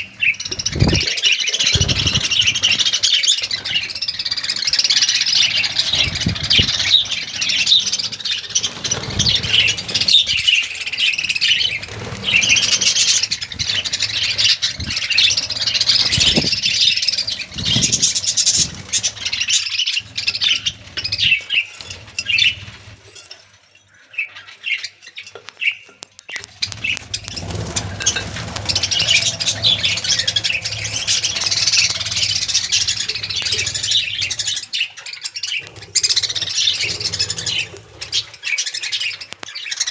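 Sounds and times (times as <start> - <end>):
budgerigars chirping and chattering: 0.0 - 23.2, 23.8 - 39.9.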